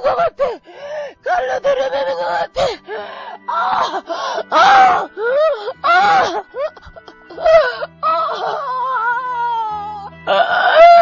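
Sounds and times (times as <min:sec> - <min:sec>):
person wailing and moaning: 0:00.0 - 0:02.9, 0:03.5 - 0:11.0
background music: 0:00.0 - 0:11.0.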